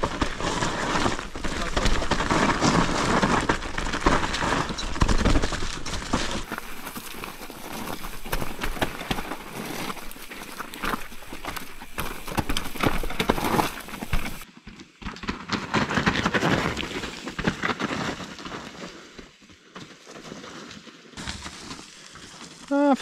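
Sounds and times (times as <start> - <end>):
bike rattling: 0.0 - 18.9
tyres crunching over dirt: 0.0 - 23.0.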